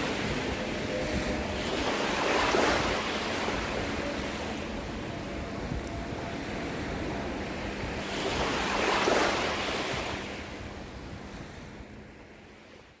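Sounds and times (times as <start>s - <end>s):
ocean waves washing onto beach: 0.0s - 13.0s.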